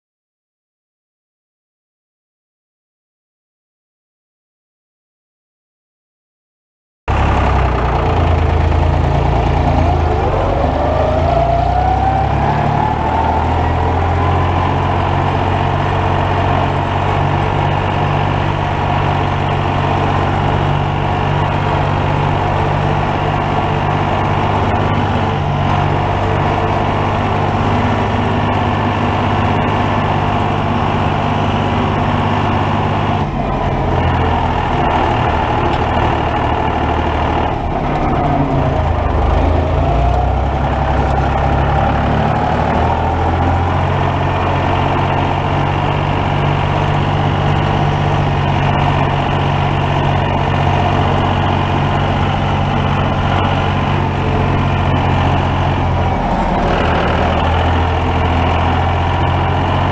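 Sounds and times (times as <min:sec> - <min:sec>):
rising whine: 0:07.1 - 0:59.9
tractor diesel engine running: 0:07.1 - 0:59.9.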